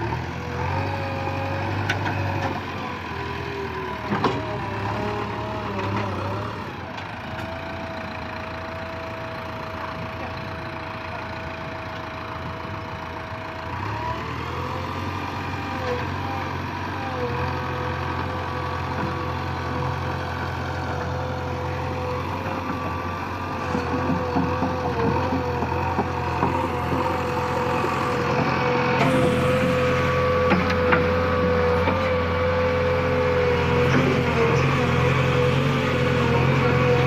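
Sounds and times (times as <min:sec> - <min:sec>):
backhoe diesel engine running: 0:00.0 - 0:37.0.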